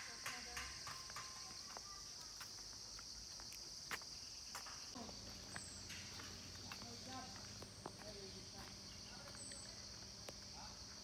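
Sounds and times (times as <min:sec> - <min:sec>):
footsteps on brick path: 0:00.0 - 0:11.0
high-pitched insect chorus: 0:00.0 - 0:11.0.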